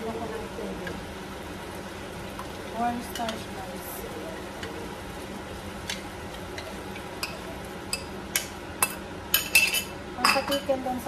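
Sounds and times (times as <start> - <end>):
chicken sizzling in a pan: 0.0 - 10.6.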